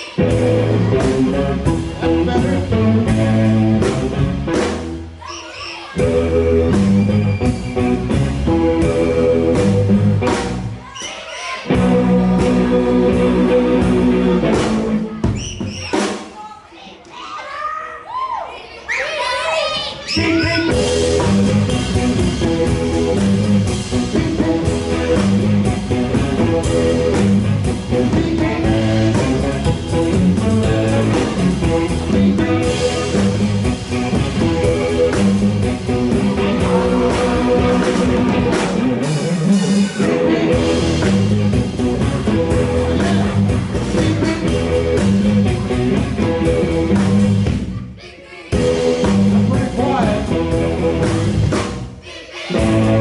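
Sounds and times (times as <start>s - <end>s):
blues band playing: 0.0s - 16.4s, 19.8s - 53.0s.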